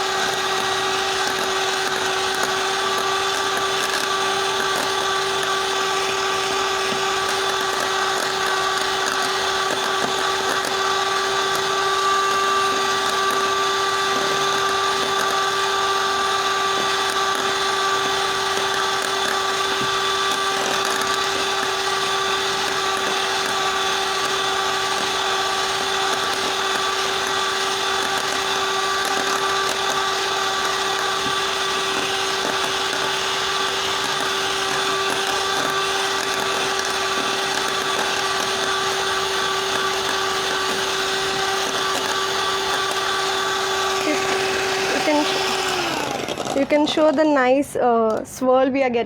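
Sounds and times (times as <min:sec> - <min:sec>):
electric mixer motor whining: 0:00.0 - 0:48.4.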